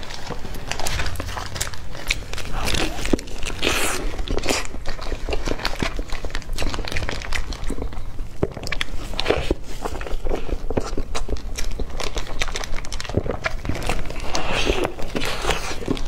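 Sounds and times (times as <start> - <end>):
cake being chewed: 0.0 - 16.0
paper wrapper crinkling: 0.0 - 16.0.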